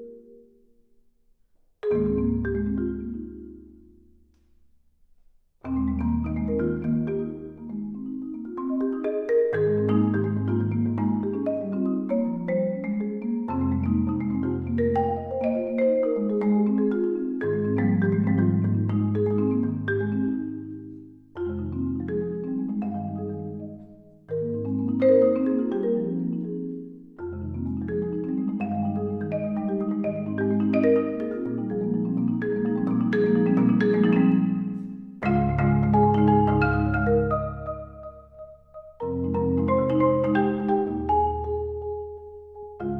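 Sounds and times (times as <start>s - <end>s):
instrumental music with struck notes: 1.8s - 42.9s.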